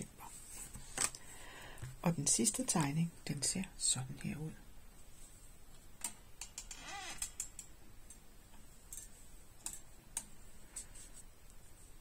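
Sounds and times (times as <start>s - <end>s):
room hiss: 0.0s - 12.0s.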